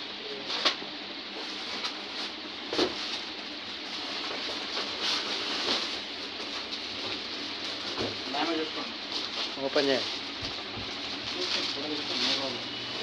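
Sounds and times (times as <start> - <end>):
plastic wrapping rustling: 1.4 - 13.0.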